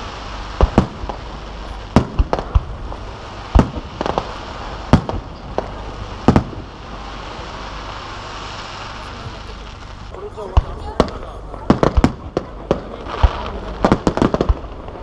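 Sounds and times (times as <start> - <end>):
fireworks booming: 0.0 - 15.0
steady background hiss: 0.0 - 15.0.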